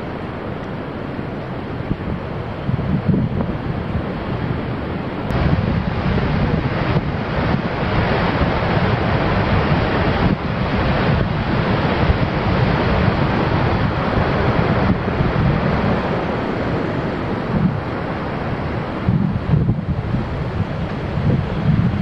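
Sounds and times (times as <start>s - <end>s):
waterfall roar: 0.0s - 22.0s
wind buffeting microphone: 0.0s - 22.0s.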